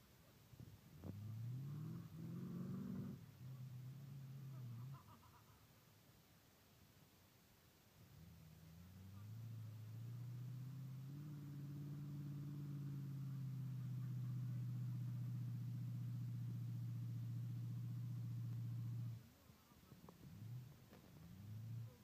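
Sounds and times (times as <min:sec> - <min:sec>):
off-road engine droning: 0:00.6 - 0:05.3, 0:08.0 - 0:22.0.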